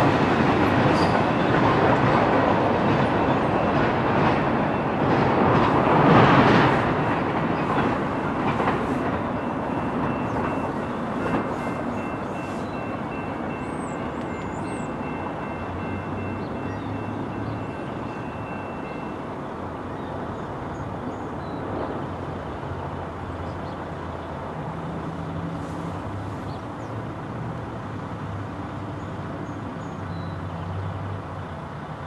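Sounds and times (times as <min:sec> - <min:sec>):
freight train rumbling: 0:00.0 - 0:32.0.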